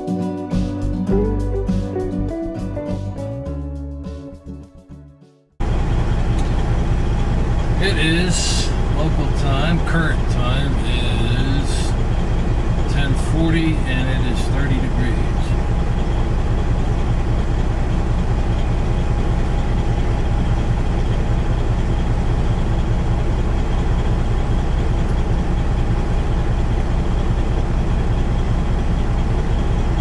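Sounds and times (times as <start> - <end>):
diesel truck engine idling: 0.7 - 3.3, 5.6 - 30.0.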